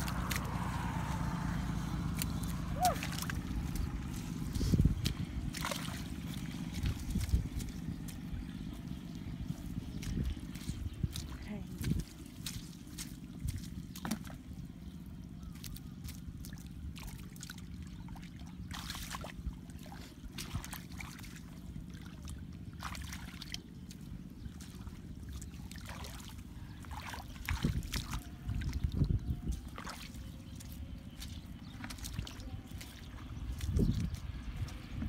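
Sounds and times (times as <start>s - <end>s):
muddy water sloshing: 0.0s - 35.0s
steady low rumble: 0.0s - 35.0s.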